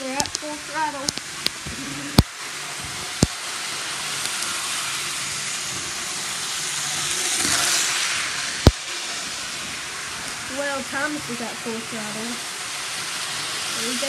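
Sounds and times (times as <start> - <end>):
model train motors and wheels hissing: 0.0 - 14.0.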